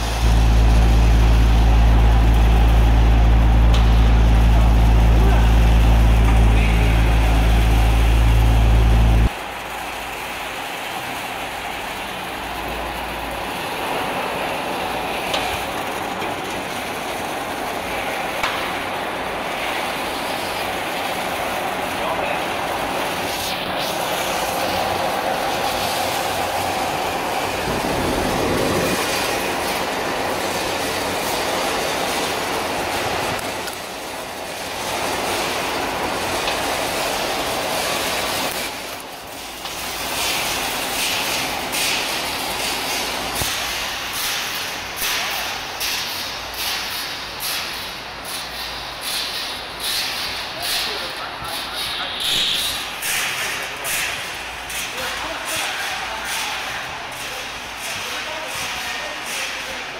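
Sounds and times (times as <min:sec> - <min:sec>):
fans blowing air: 0:00.0 - 0:59.9.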